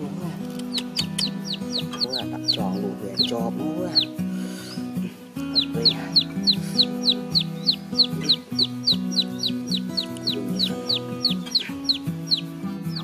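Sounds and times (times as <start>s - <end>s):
background music with low notes: 0.0s - 13.0s
chick peeping: 0.6s - 13.0s.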